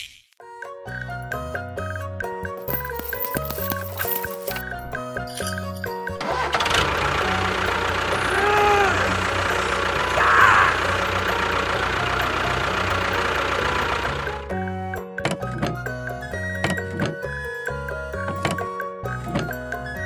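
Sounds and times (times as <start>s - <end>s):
engine running: 2.7s - 20.0s.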